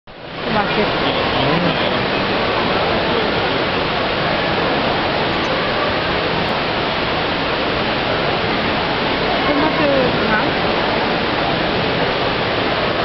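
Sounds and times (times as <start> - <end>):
indoor waterfall rushing: 0.1 - 13.0.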